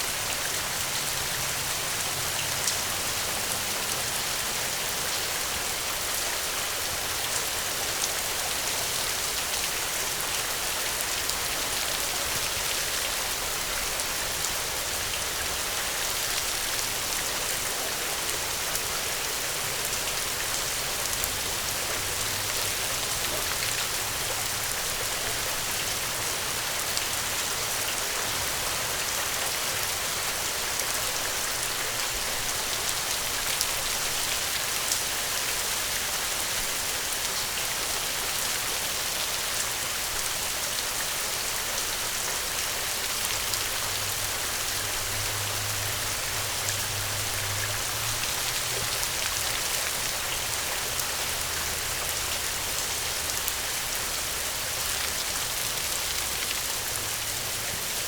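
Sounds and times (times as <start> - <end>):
small sharp rain ticks: 0.0 - 58.0
steady rain hiss: 0.0 - 58.0.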